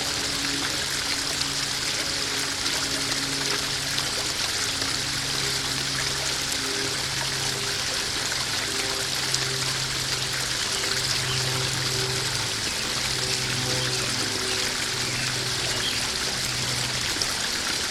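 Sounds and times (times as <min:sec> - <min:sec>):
waterfall splashing into pond: 0:00.0 - 0:17.9.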